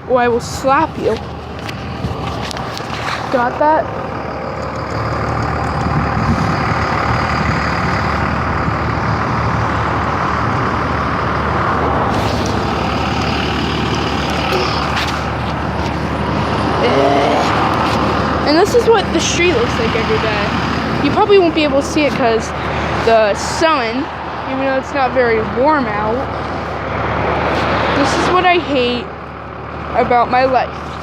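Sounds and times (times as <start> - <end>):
wind buffeting microphone: 0.0 - 29.2
heavy vehicle engine running: 0.0 - 31.0.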